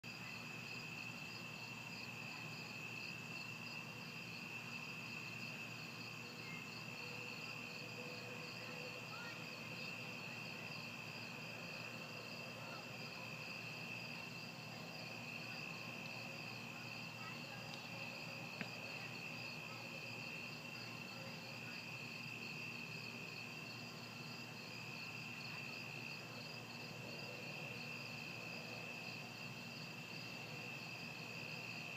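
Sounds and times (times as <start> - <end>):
night insects trilling: 0.1 - 31.9.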